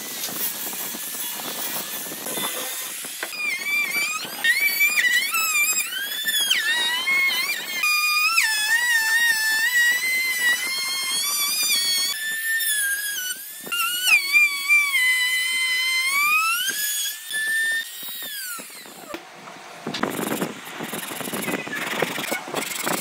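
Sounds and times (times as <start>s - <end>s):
router whining: 0.0s - 23.0s.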